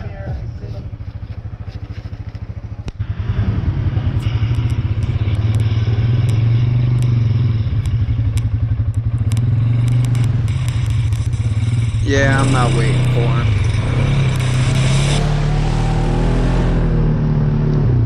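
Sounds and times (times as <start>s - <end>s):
engine running under throttle: 0.0s - 18.0s.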